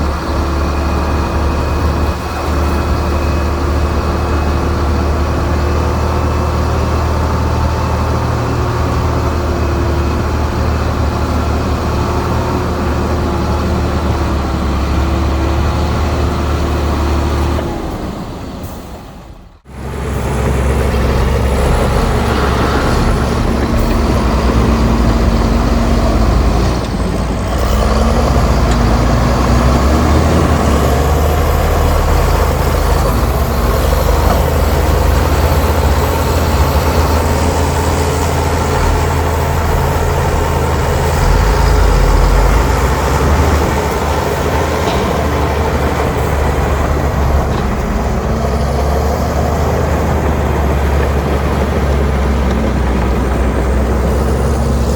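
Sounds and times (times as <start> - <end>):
diesel machinery engine drone: 0.0 - 54.9.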